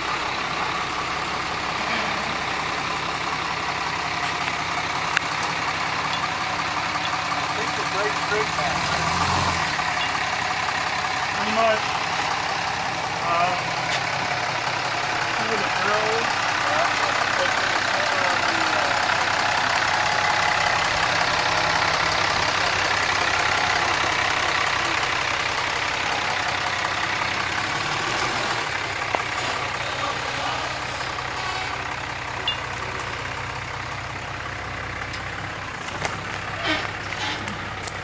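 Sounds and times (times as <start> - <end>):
pickup truck engine running: 0.0 - 38.0.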